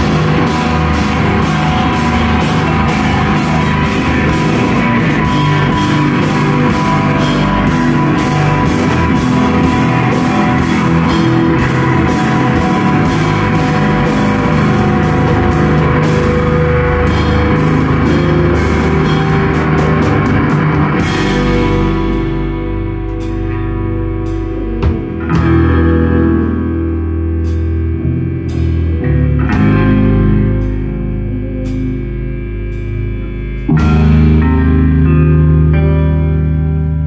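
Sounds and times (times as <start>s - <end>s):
drum kit and cymbals: 0.0s - 26.6s, 27.4s - 35.0s
loud electric guitars: 0.0s - 37.0s.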